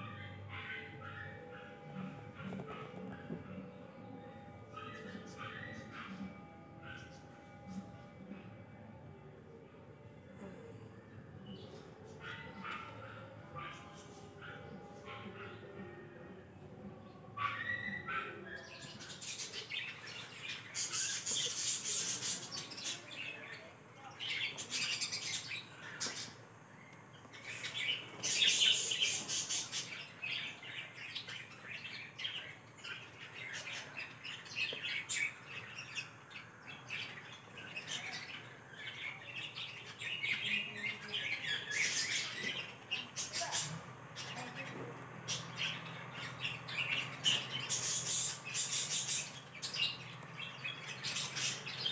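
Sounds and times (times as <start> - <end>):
birds chirping and squawking: 0.0 - 51.9.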